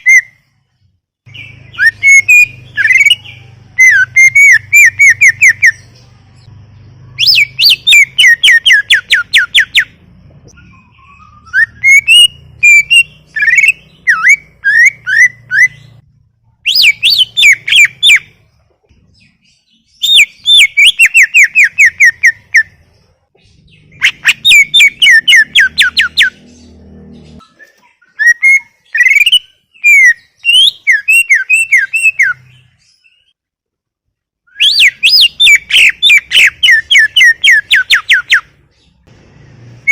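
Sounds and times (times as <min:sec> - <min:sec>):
bird singing whistles and warbles: 0:00.0 - 0:00.5, 0:01.3 - 0:16.0, 0:16.6 - 0:18.4, 0:19.1 - 0:33.4, 0:34.5 - 0:39.0.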